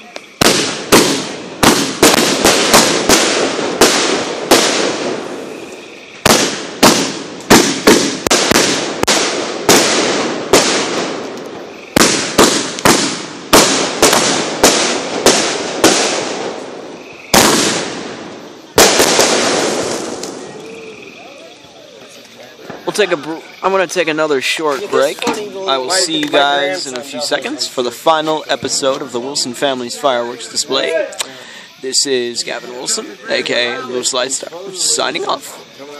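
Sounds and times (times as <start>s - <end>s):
fireworks bangs and crackle: 0.0s - 35.8s.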